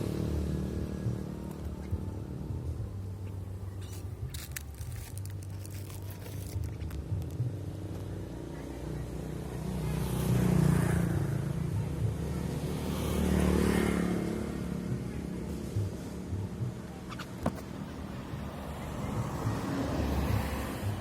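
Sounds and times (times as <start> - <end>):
low traffic rumble: 0.0 - 21.0
vehicles passing on a road: 0.0 - 21.0.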